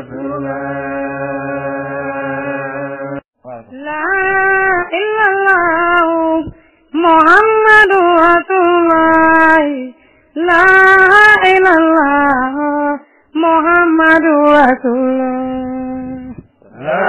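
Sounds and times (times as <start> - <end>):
high voice singing a religious chant: 0.0 - 17.0.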